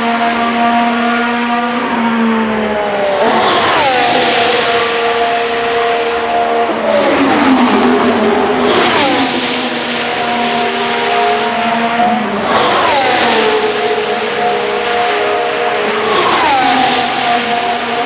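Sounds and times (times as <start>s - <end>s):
racing cars passing at speed: 0.0s - 18.0s.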